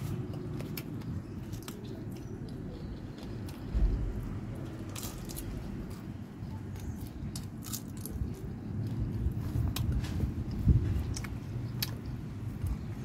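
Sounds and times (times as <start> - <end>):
chewing crispy fried shrimp: 0.0 - 13.0.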